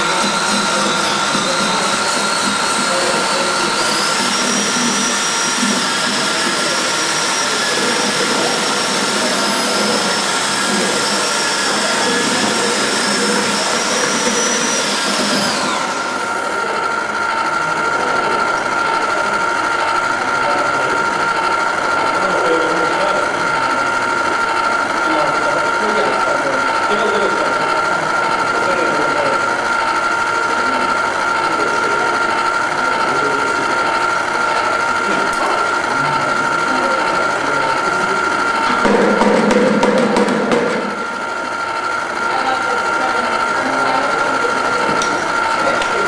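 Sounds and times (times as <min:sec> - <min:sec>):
small electric motor whining: 0:00.0 - 0:46.0
steady low hum: 0:00.0 - 0:46.0.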